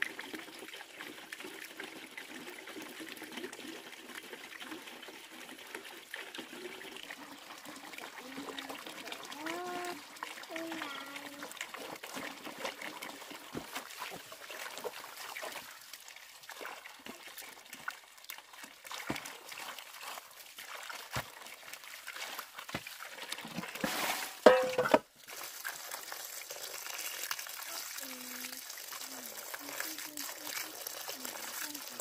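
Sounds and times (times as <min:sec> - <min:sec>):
water splashing and sloshing: 0:00.0 - 0:32.0
water trickling into metal basin: 0:00.0 - 0:32.0.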